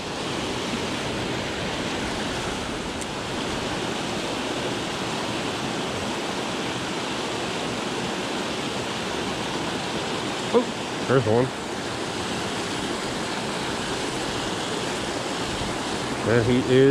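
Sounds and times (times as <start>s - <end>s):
water rushing over spillway: 0.0s - 16.9s.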